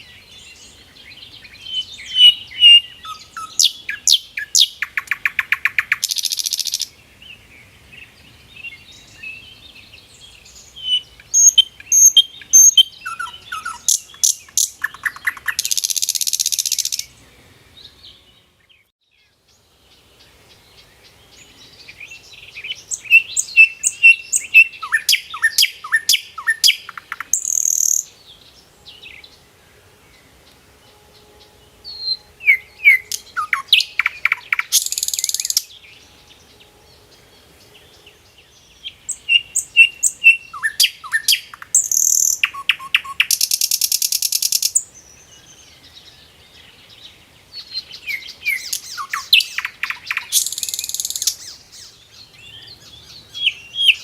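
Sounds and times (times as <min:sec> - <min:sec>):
songbird singing chirps and trills: 0:00.0 - 0:54.0.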